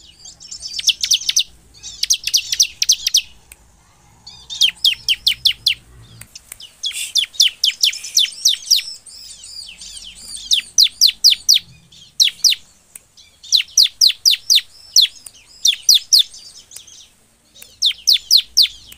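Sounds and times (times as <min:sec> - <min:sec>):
bird singing sharp high notes: 0:00.0 - 0:18.9.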